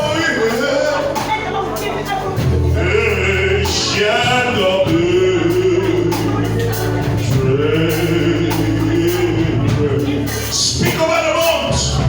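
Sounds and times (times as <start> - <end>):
man singing gospel song: 0.0 - 12.0
sustained instrumental accompaniment: 0.0 - 12.0.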